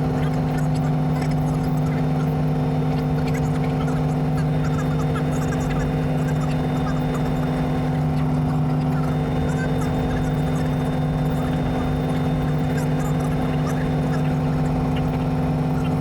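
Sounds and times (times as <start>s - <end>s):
helicopter engine and rotors drone: 0.0s - 16.0s.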